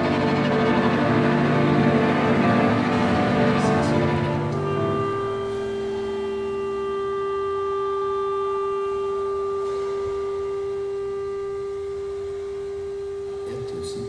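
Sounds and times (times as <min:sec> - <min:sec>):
chamber ensemble holding long note: 0:00.0 - 0:12.7.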